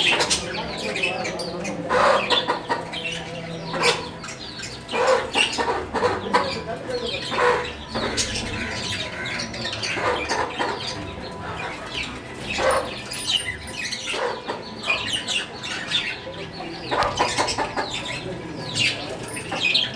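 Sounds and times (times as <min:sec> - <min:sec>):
parrots chirping and squawking: 0:00.0 - 0:19.9.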